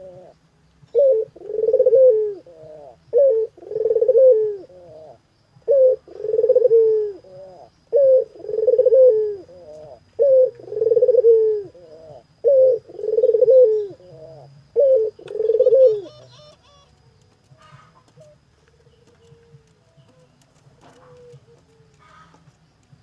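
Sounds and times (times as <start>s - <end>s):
dove cooing: 0.0s - 22.5s
faint high bird chirps: 0.0s - 23.0s.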